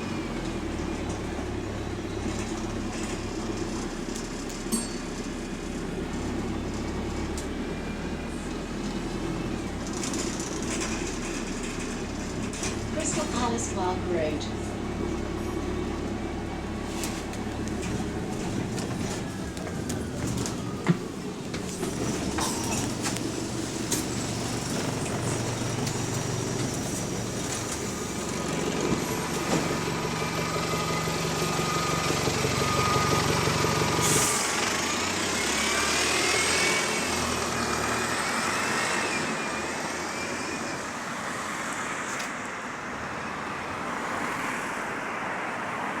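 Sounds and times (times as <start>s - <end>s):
bus engine drone: 0.0s - 46.0s
road noise: 0.0s - 46.0s.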